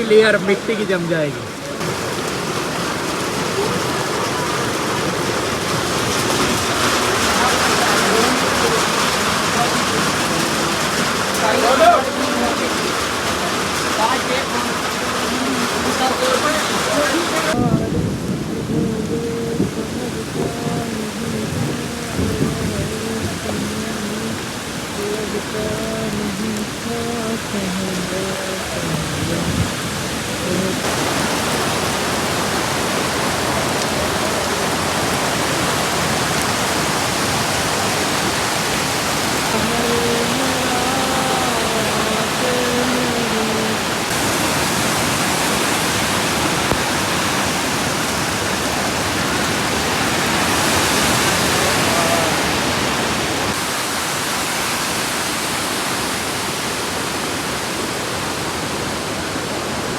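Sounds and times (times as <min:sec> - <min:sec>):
heavy rain: 0:00.0 - 0:59.9
runoff water flowing: 0:00.0 - 0:59.9.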